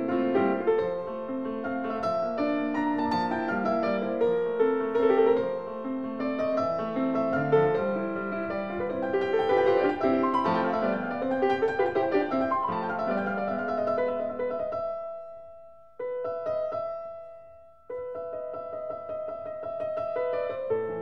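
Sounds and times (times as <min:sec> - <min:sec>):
solo piano music: 0:00.0 - 0:21.0.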